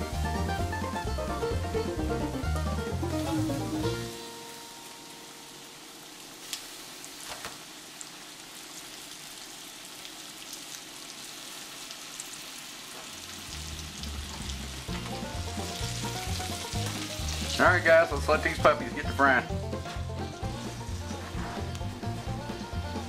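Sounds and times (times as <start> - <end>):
chicken frying in oil: 2.5 - 23.0.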